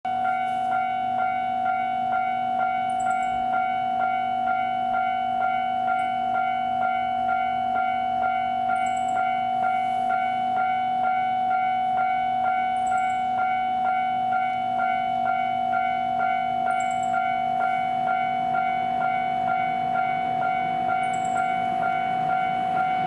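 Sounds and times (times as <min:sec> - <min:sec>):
level-crossing warning bell: 0:00.1 - 0:23.0.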